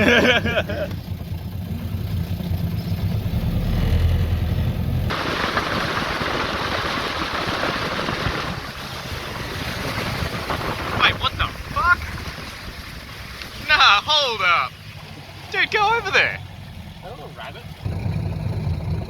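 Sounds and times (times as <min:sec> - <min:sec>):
outboard motor humming: 0:00.0 - 0:19.0
wind and water rushing: 0:03.3 - 0:19.0.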